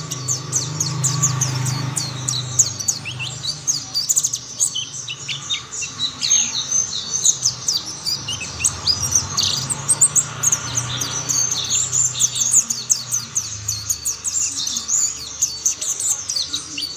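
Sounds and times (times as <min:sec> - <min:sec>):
bird twittering and trilling: 0:00.0 - 0:16.9.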